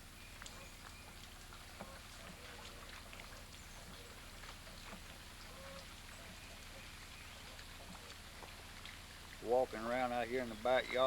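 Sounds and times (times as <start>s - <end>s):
soft dripping ticks: 0.3s - 11.0s.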